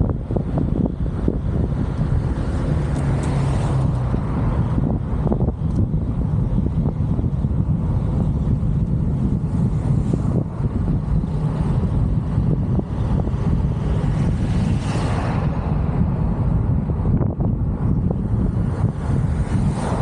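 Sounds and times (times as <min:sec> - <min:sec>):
road vehicle rumbling: 0:00.0 - 0:20.0
wind buffeting microphone: 0:00.0 - 0:20.0.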